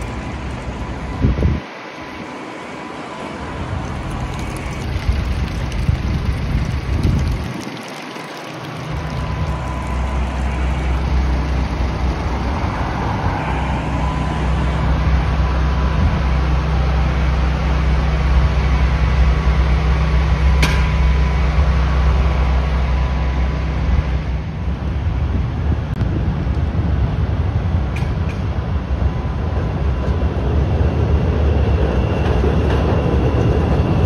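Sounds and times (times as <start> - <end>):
train low rumble: 0.0 - 7.6, 8.7 - 34.0.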